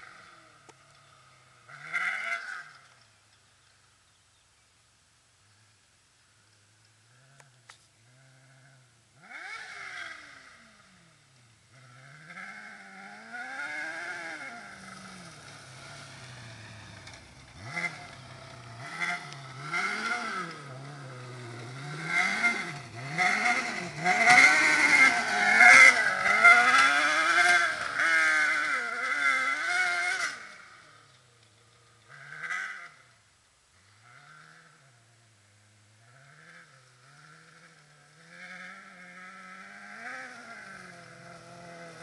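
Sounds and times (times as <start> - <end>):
kart engine revving: 0.0 - 3.0, 8.2 - 42.0.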